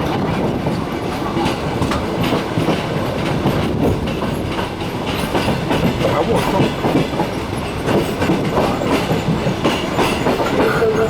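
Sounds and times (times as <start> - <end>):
train rumble: 0.0 - 11.0
wheels clicking over rail joints: 0.0 - 11.0.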